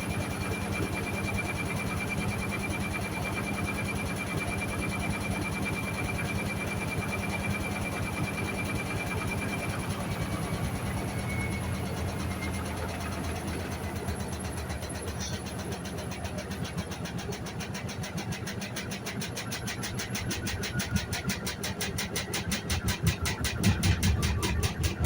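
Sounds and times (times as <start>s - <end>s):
washing machine pulsing: 0.0s - 25.0s.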